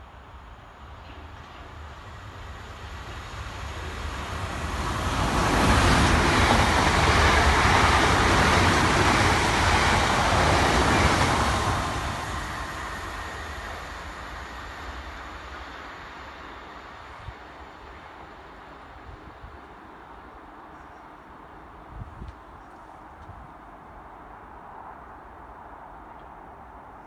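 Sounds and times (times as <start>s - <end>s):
electric train passing at speed: 0.0s - 27.0s.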